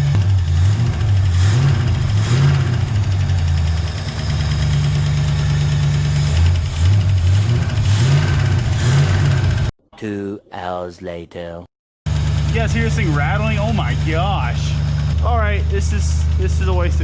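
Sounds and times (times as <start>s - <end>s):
car engine idling: 0.0s - 9.7s, 12.1s - 17.0s.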